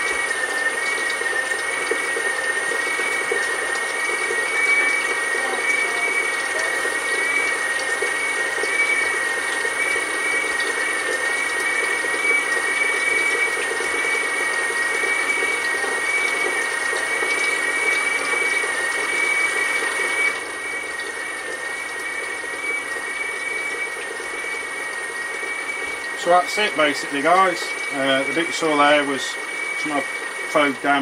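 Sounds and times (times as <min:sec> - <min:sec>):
oil pump whining: 0:00.0 - 0:31.0.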